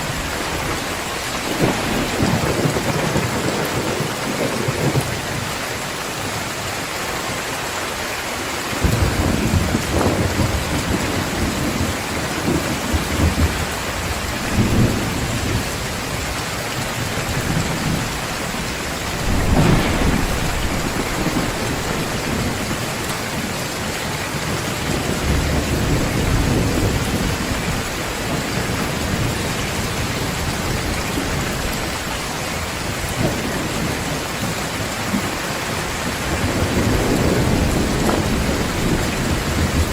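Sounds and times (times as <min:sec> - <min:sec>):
thunder rumbling: 0:00.0 - 0:05.7, 0:08.8 - 0:32.1, 0:33.0 - 0:39.9
heavy rain pouring: 0:00.0 - 0:39.9.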